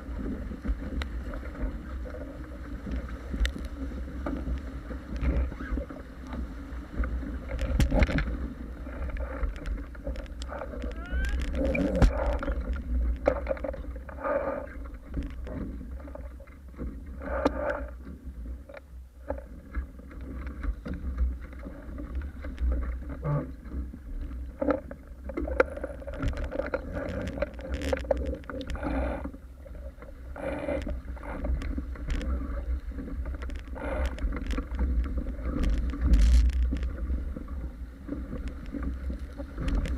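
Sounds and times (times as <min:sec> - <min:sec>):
low wind rumble: 0:00.0 - 0:39.9
water rushing along boat hulls: 0:00.0 - 0:39.9
waves slapping: 0:00.0 - 0:39.9.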